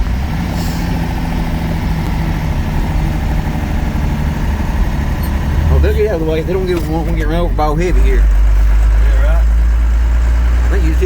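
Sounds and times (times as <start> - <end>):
diesel engine running in cab: 0.0 - 11.0.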